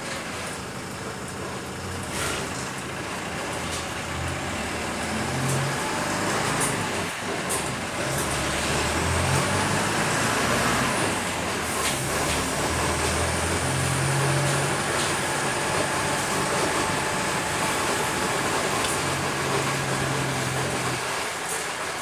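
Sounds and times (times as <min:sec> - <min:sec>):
bus engine humming: 0:00.0 - 0:22.0
road noise: 0:00.0 - 0:22.0.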